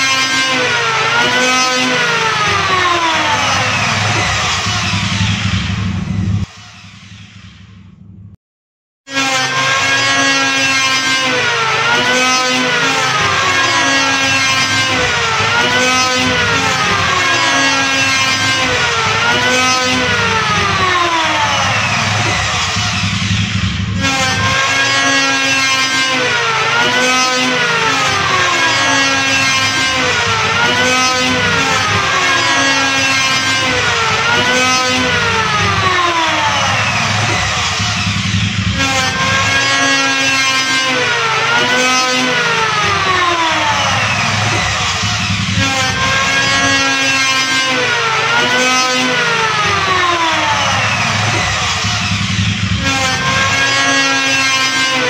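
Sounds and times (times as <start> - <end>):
electric wood planer whining: 0.0 - 7.1, 9.1 - 55.0.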